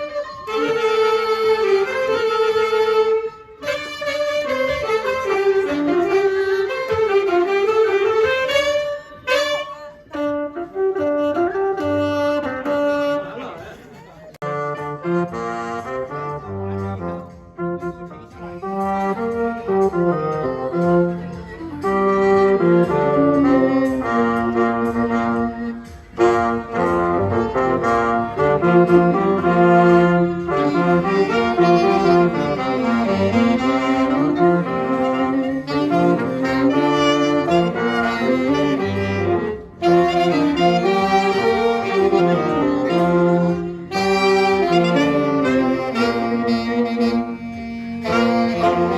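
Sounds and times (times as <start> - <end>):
amateur band with wind instruments: 0.0 - 48.9.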